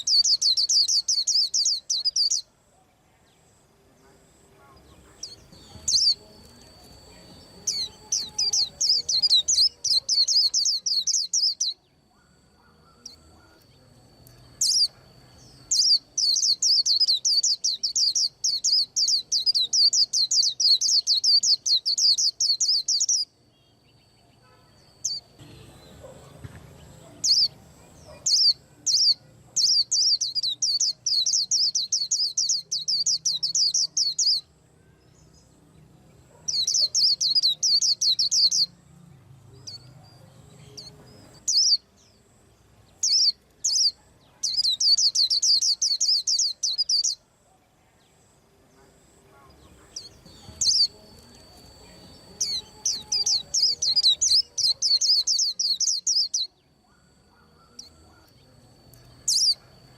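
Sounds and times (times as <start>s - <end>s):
bird twittering chirps: 0.0s - 2.6s, 4.8s - 34.6s, 36.3s - 38.8s, 39.6s - 42.3s, 42.9s - 47.2s, 49.6s - 59.9s.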